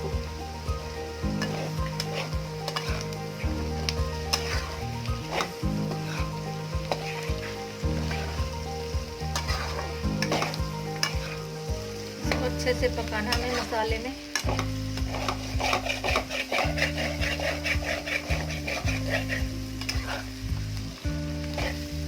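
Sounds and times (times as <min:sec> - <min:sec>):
spatula scraping a pan: 0:00.0 - 0:22.0
vegetables sizzling in a pan: 0:00.0 - 0:22.0.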